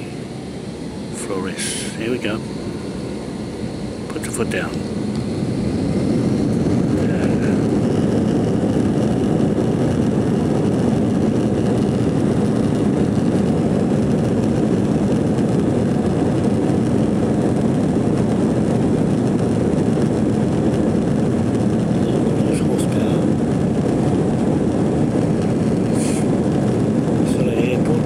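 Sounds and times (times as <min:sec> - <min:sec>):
jet engines roaring at takeoff: 0:00.0 - 0:28.0.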